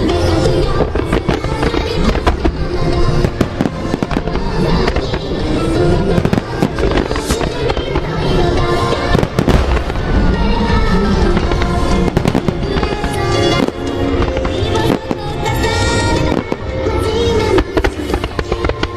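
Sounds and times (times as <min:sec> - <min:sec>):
fireworks bangs and crackles: 0:00.0 - 0:18.9
music over loudspeakers: 0:00.0 - 0:18.9.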